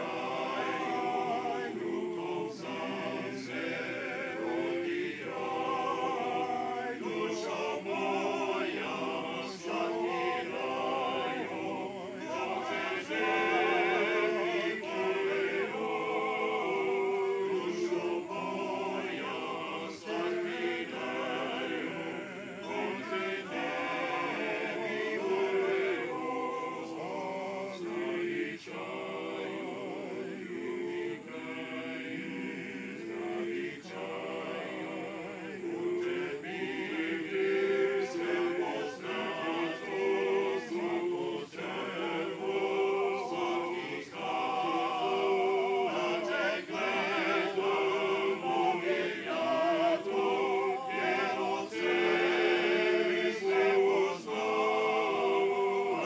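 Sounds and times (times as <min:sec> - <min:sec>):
men's choir singing a cappella: 0:00.0 - 0:56.0.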